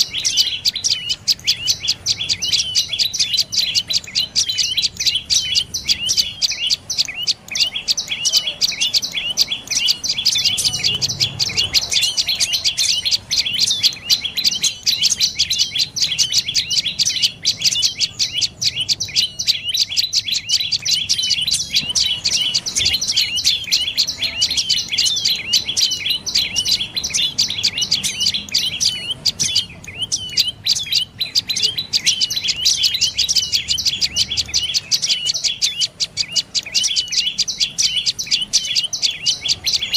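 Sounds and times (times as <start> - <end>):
bird calling with high chirps: 0.0 - 39.9.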